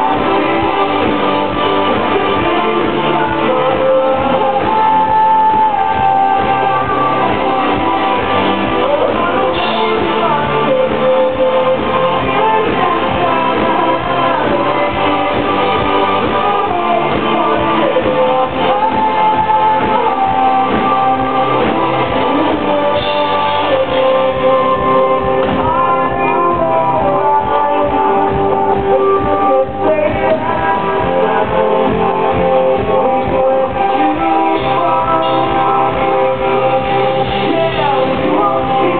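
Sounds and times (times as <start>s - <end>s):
live rock band playing: 0.0s - 38.9s
sung vocal: 0.0s - 38.9s.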